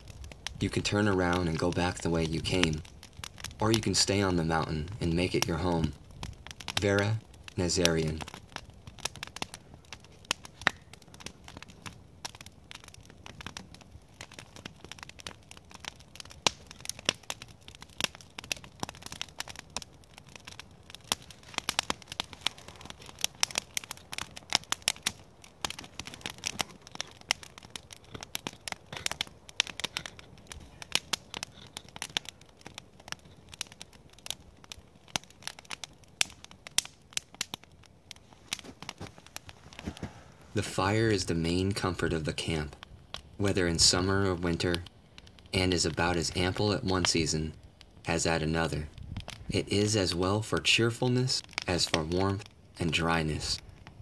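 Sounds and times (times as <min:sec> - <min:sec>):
campfire crackling and snapping: 0:00.0 - 0:54.0.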